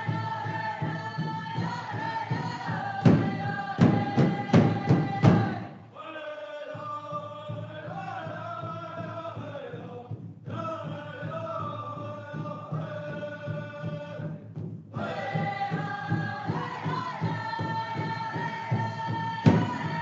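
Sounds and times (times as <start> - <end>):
low drum beat: 0.0 - 5.8, 7.7 - 20.0
voices chanting: 0.0 - 14.4, 15.0 - 20.0.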